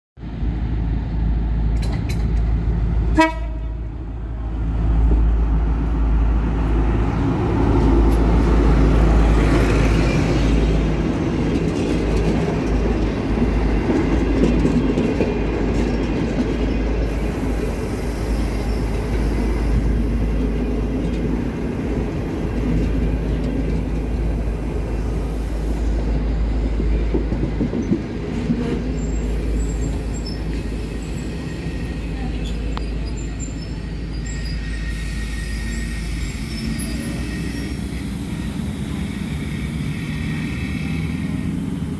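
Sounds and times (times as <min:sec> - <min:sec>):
deep locomotive engine rumble: 0:00.2 - 0:41.9
rolling rail noise: 0:00.2 - 0:41.9.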